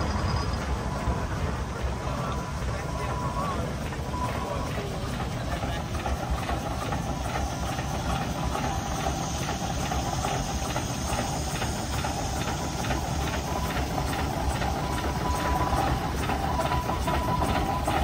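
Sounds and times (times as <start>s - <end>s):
steam engine exhaust beats: 0.0s - 18.0s
steam hiss: 0.0s - 18.0s.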